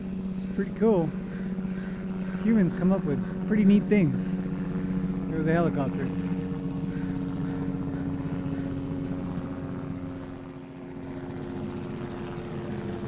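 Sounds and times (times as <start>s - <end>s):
distant helicopter engine and rotor: 0.0s - 13.0s.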